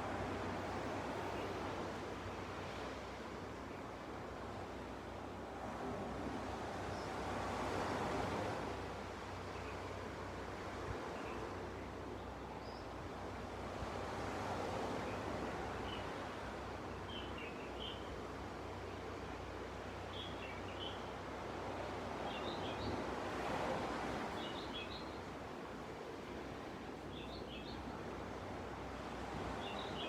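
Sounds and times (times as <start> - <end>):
sea waves washing on beach: 0.0 - 30.0.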